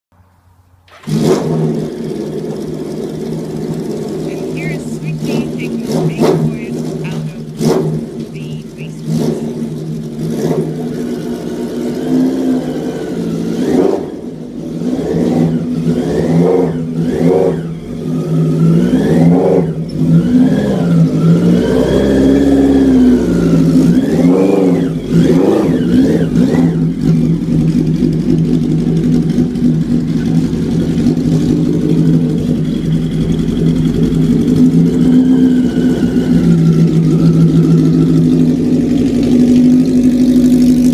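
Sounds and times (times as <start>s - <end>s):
motorcycle engine revving: 0.9s - 40.9s.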